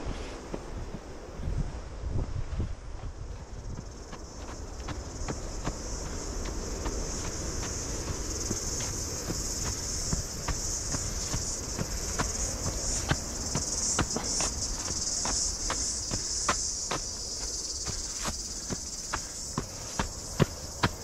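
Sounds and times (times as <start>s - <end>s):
footsteps on dirt trail: 2.4s - 21.0s
high-pitched insect chorus: 3.0s - 21.0s.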